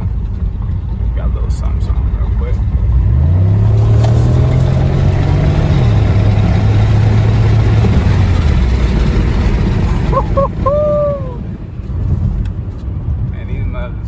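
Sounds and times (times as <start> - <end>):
car engine at full throttle: 0.0 - 13.7.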